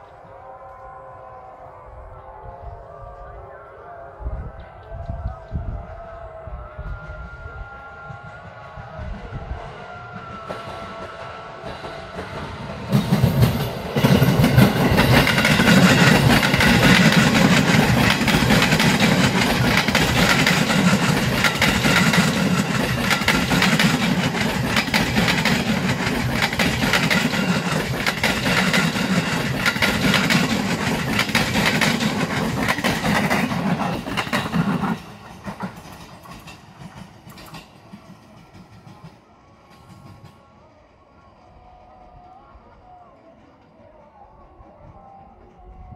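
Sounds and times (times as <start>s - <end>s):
electric train passing: 0.0s - 45.9s.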